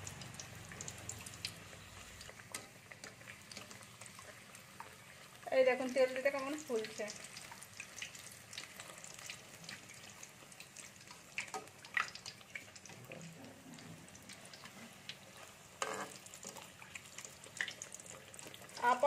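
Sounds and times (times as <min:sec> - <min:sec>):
dough deep-frying in oil: 0:00.0 - 0:19.0
oil crackles: 0:00.0 - 0:19.0.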